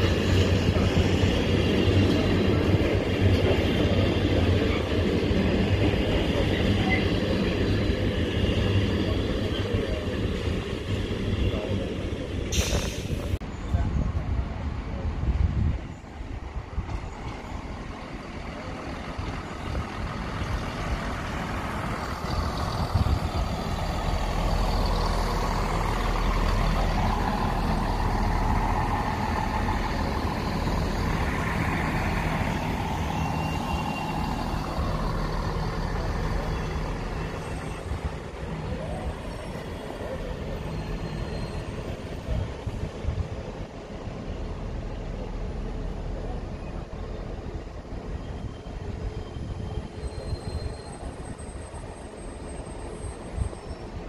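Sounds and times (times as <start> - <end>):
diesel train engines: 0.0 - 54.0
wheels rumbling on rail: 0.0 - 54.0.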